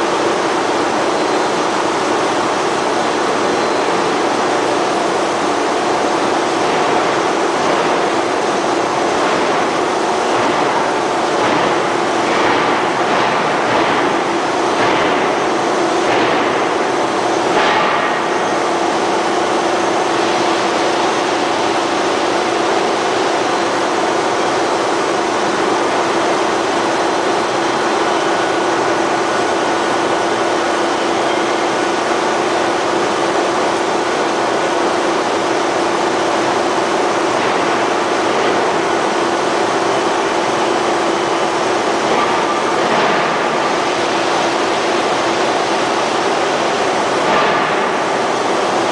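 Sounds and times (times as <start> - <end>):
rolling mill mechanical rumble: 0.0 - 48.9.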